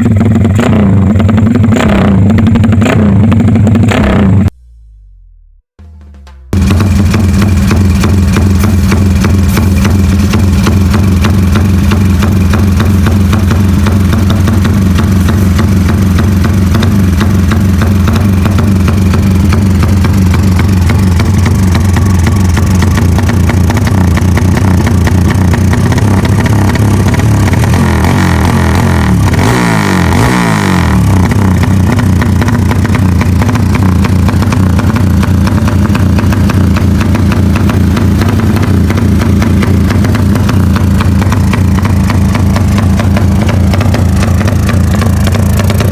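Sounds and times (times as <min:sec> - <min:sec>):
motorcycle engine idling and revving: 0:00.0 - 0:45.9.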